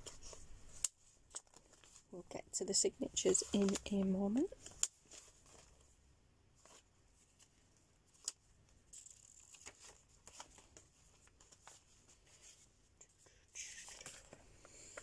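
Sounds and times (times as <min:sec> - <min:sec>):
paper pages rustling: 0:00.0 - 0:02.2, 0:03.2 - 0:06.0, 0:06.6 - 0:12.7, 0:13.6 - 0:15.0.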